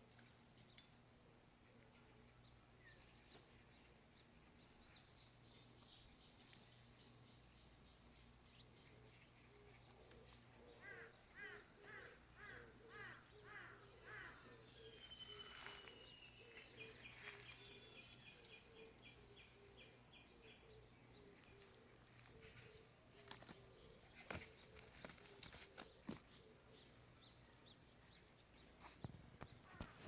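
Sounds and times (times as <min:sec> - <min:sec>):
birds chirping: 0:00.1 - 0:30.0.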